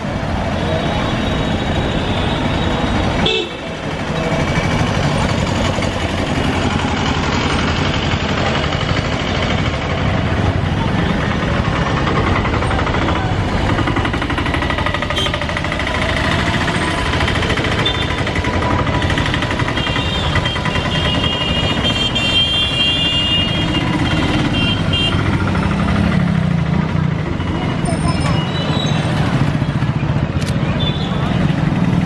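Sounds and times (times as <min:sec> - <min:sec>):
motorcycle engines in traffic: 0:00.0 - 0:32.0.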